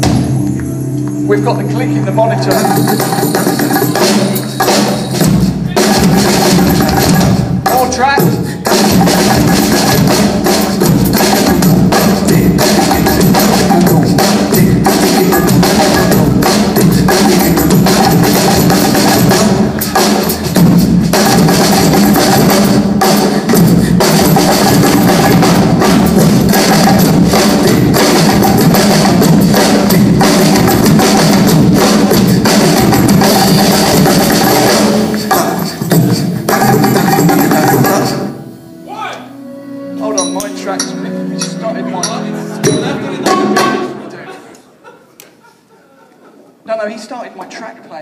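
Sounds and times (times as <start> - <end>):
backing track over a pa: 0.0 - 44.4
drum kits playing: 0.0 - 44.5.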